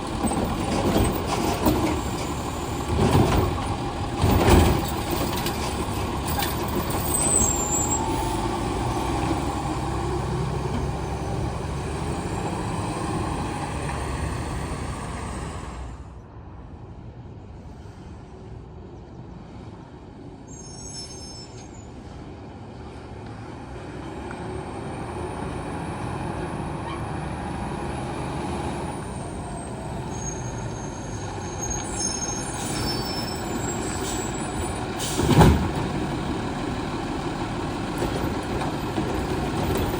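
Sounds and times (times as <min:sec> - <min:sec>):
recycling truck running: 0:00.0 - 0:16.5, 0:21.6 - 0:39.9.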